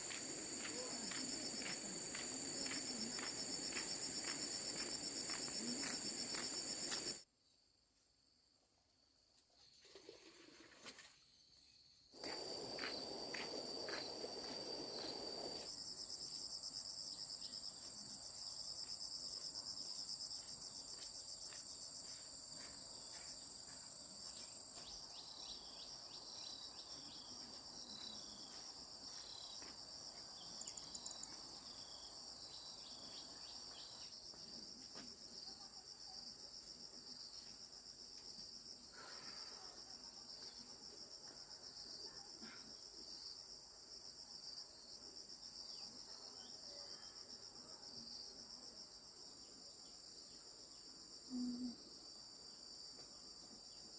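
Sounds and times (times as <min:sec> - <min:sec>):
insects chirring: 0:00.0 - 0:07.6, 0:09.6 - 0:53.9.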